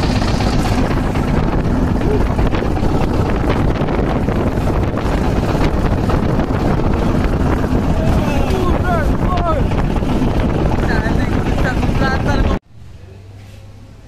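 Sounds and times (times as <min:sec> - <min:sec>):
water splashing along hull: 0:00.0 - 0:12.6
wind buffeting microphone: 0:00.0 - 0:12.6
boat engine running: 0:00.0 - 0:14.0.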